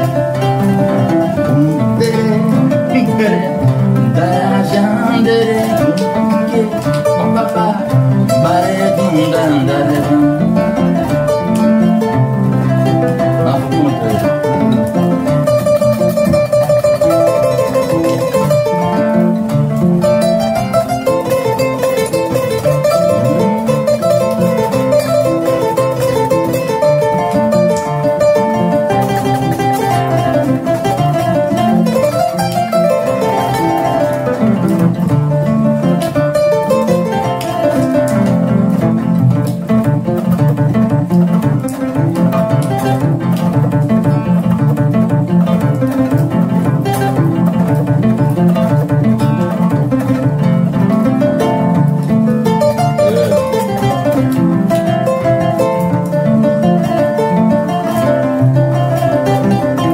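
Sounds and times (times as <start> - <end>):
acoustic guitar: 0.0 - 59.9
kora: 0.0 - 59.9.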